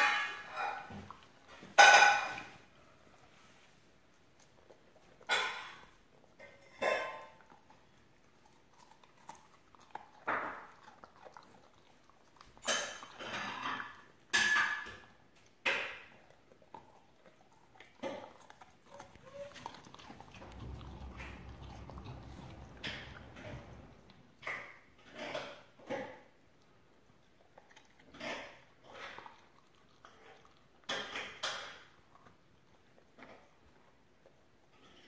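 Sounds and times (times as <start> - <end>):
puppy crunching celery: 0.0 - 35.0.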